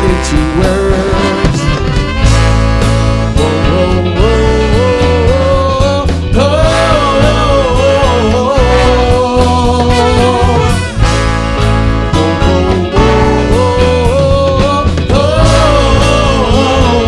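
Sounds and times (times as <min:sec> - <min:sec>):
rock band music: 0:00.0 - 0:17.0
sliding lead melody: 0:00.0 - 0:17.0.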